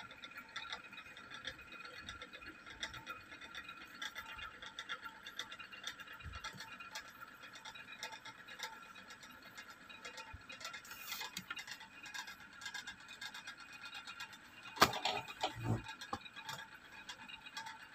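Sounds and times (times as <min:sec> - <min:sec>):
faint rapid ticking: 0:00.0 - 0:17.9.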